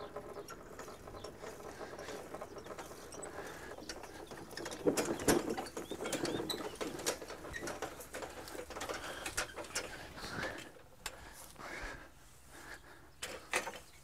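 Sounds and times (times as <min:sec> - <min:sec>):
cargo trailer and crates rattling: 0:00.0 - 0:12.0.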